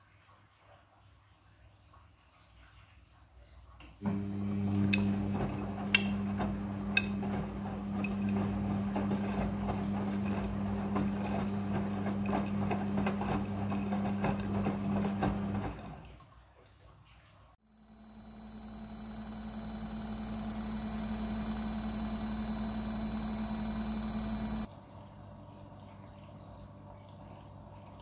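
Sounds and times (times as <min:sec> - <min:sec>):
washing machine running: 0:04.0 - 0:16.1, 0:17.6 - 0:28.0.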